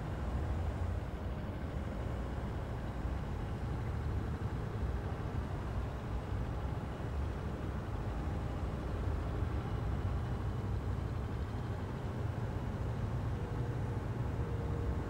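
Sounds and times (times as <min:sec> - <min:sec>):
construction machinery diesel rumble: 0:00.0 - 0:15.0.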